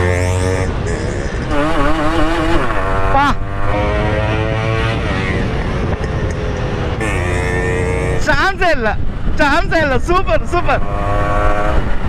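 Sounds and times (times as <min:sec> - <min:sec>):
motorcycle engine revving: 0:00.0 - 0:08.4, 0:10.6 - 0:12.0.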